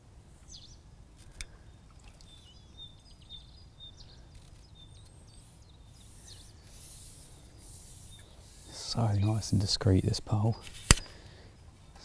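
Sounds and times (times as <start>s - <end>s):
soft hiss: 0.0s - 12.0s
small birds chirping: 0.3s - 12.0s.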